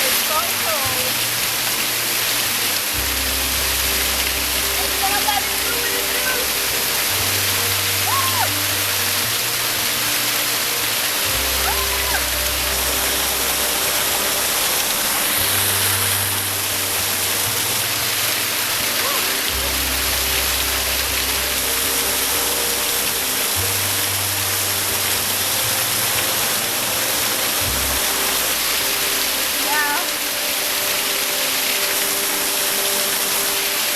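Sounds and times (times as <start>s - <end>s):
background music with deep bass: 0.0s - 33.9s
rushing water: 0.0s - 33.9s.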